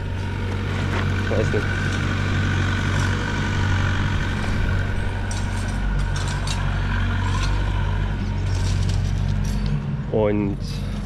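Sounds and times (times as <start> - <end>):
diesel engine whining: 0.0 - 11.0.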